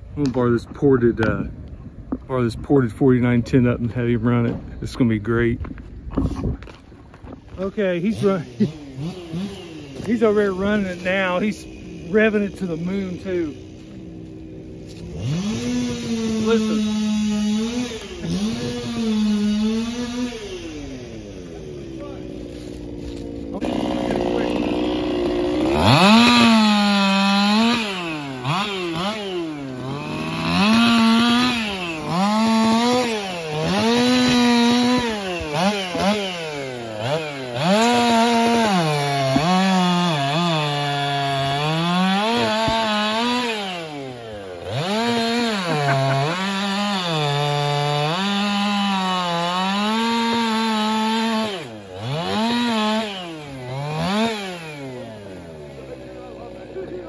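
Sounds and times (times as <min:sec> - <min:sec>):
chainsaw revving: 0:06.2 - 0:57.0
chain cutting into wood: 0:08.1 - 0:21.5, 0:22.5 - 0:55.2.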